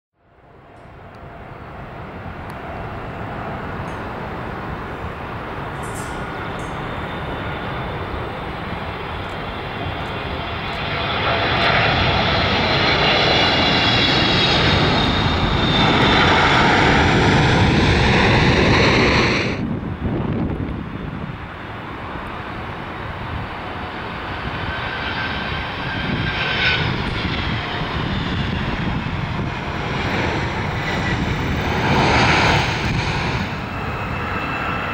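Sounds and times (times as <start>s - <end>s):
jet engines landing: 0.3s - 34.9s.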